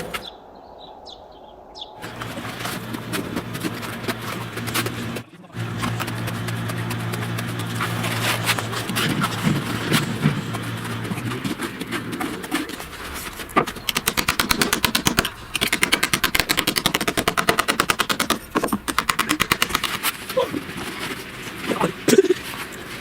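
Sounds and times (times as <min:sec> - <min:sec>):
power hammer chipping masonry: 0:02.0 - 0:21.6.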